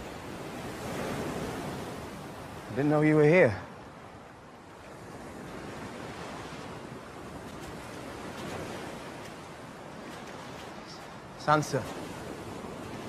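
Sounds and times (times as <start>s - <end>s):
surf breaking on a beach: 0.0s - 13.0s
wind: 0.0s - 13.0s.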